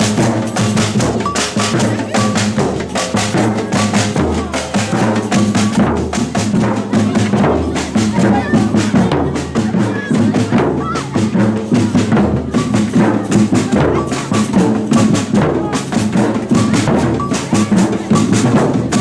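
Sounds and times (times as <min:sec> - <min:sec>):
deep bass drums pounding: 0:00.0 - 0:19.0
rapid higher drum strokes: 0:00.0 - 0:19.0.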